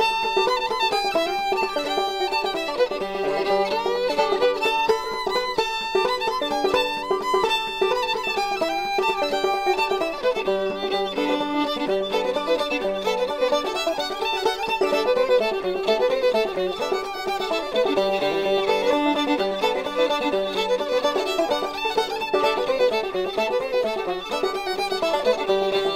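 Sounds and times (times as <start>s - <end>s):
fiddle-led music: 0.0s - 25.9s.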